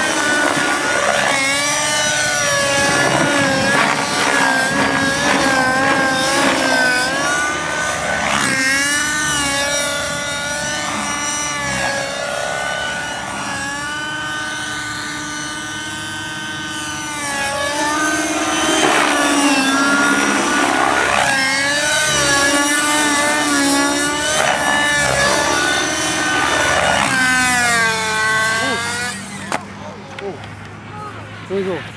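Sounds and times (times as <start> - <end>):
model helicopter engine and rotors whining: 0.0 - 31.9.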